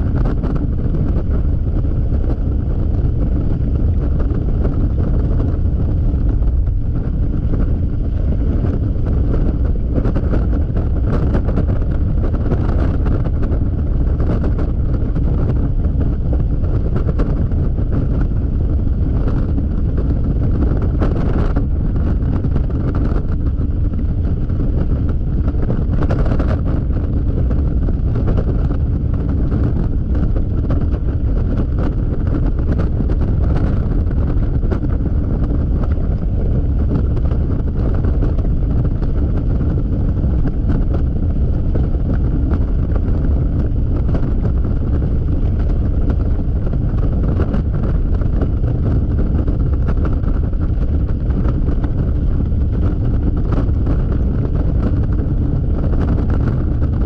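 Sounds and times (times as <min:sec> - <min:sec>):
scooter engine and road noise: 0:00.0 - 0:57.0
wind buffeting microphone: 0:00.0 - 0:57.0.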